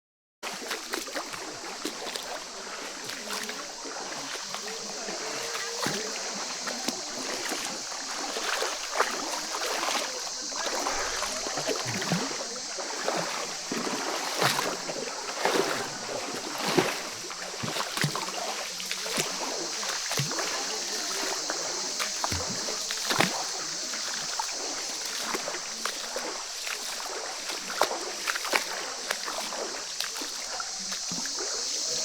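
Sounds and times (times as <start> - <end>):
river water splashing and trickling: 0.4 - 32.0
sharp splashes: 0.4 - 32.0
high hum of insects: 0.5 - 32.0.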